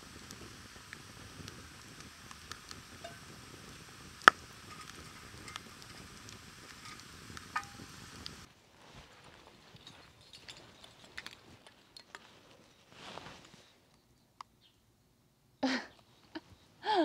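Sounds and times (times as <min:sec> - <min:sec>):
campfire crackling: 0:00.0 - 0:13.7.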